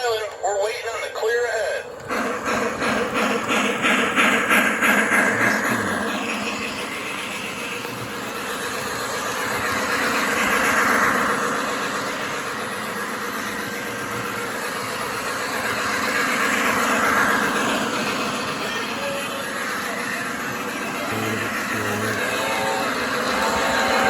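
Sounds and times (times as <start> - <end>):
model train rolling rumble: 0.0 - 24.0.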